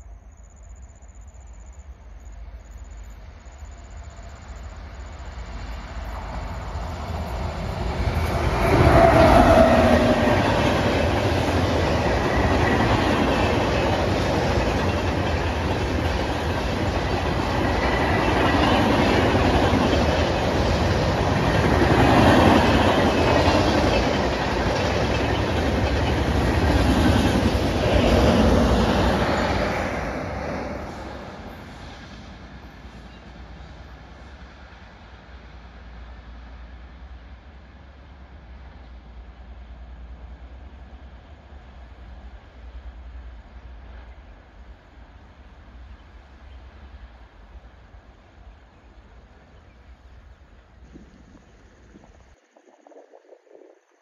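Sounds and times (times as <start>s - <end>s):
train passing at speed: 0.0s - 52.6s
wheels rumbling and clattering on rails: 1.4s - 52.6s.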